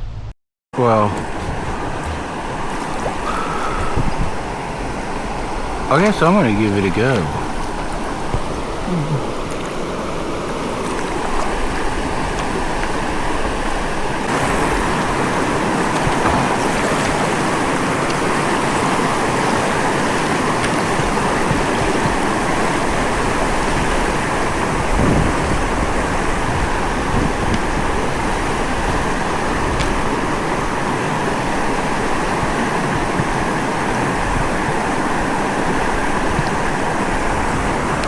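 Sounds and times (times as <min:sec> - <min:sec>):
flowing river water: 0:00.8 - 0:38.0.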